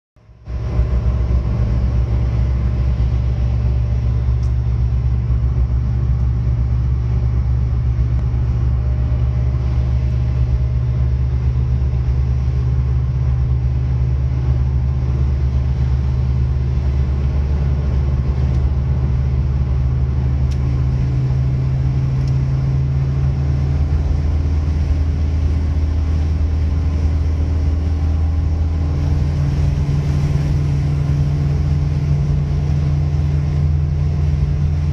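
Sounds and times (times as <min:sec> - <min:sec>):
car engine and road noise: 0:00.2 - 0:34.9.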